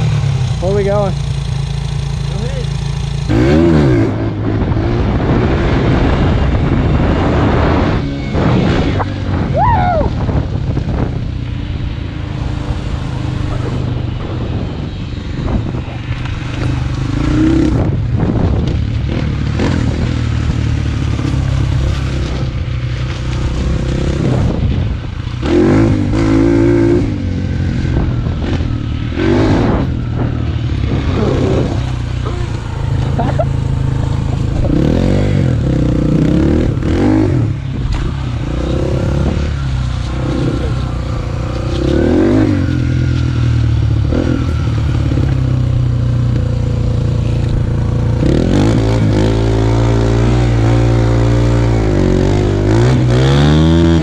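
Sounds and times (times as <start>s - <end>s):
dirt bike engine revving: 0.0s - 54.0s
wind on microphone: 3.5s - 22.8s, 23.5s - 54.0s.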